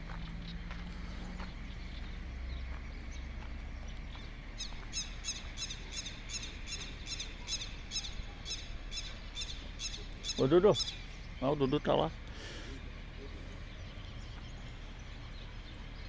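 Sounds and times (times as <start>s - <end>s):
bird chirping: 0.0s - 16.0s
low outdoor rumble: 0.0s - 16.0s.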